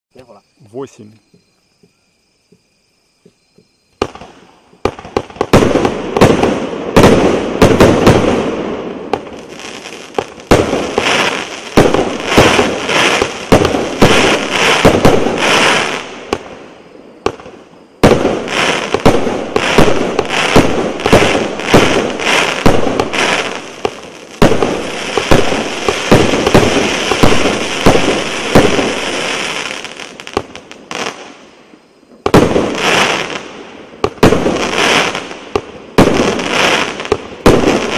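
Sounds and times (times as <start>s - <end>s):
fireworks shots launching and bursting: 3.9s - 37.9s.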